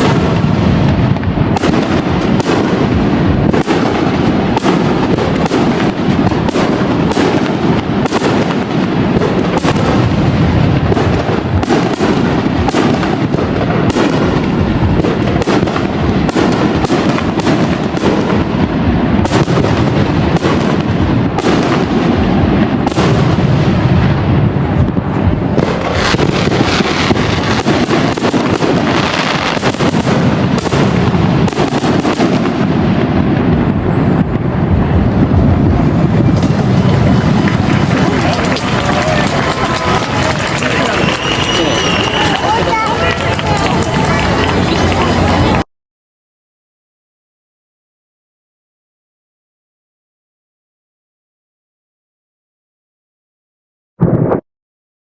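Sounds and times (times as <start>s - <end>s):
fireworks bursting: 0.0s - 45.7s, 54.0s - 54.4s.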